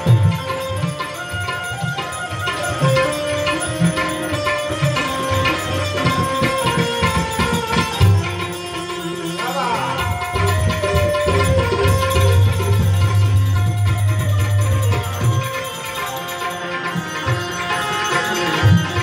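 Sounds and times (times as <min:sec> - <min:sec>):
harmonium sustained notes: 0:00.0 - 0:19.0
tabla drumming: 0:00.0 - 0:19.0.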